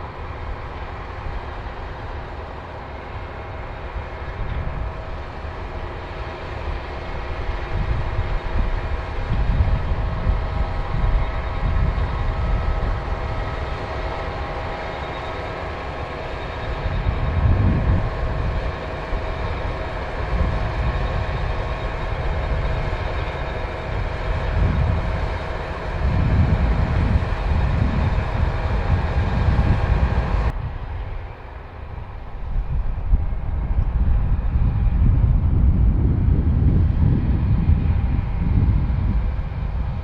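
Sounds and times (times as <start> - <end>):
combine harvester running: 0.0 - 40.0.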